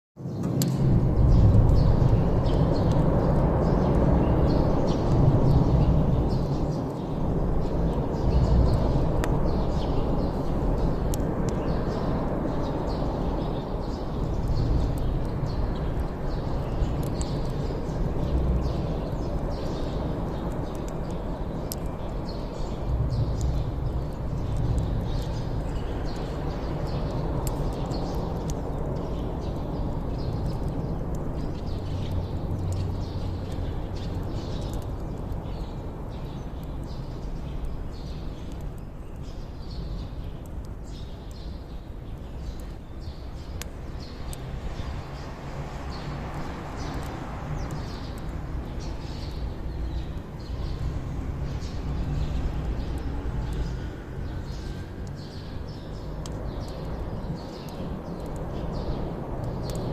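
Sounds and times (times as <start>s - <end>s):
campfire crackling and popping: 0.4s - 59.9s.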